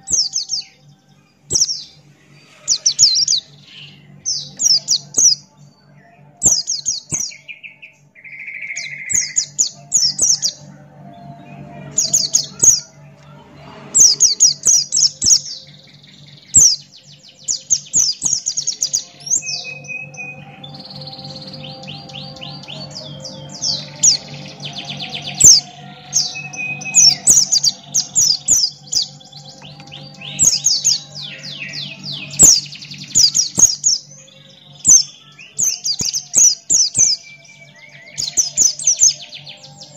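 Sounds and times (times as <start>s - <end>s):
bird singing chirping trills: 0.0s - 39.9s
faint low hum: 0.0s - 39.9s.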